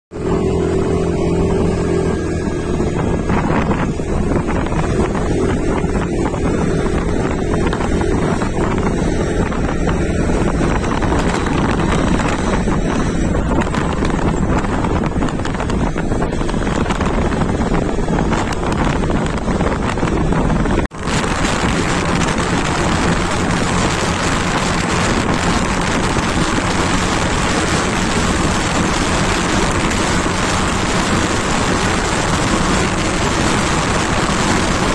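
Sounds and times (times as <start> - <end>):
motorbike engine drone: 0.1 - 34.9
wind buffeting microphone: 0.2 - 34.9.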